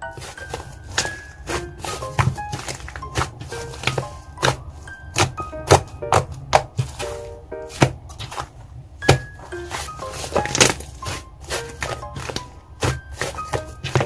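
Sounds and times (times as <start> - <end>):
light background music: 0.0 - 14.0.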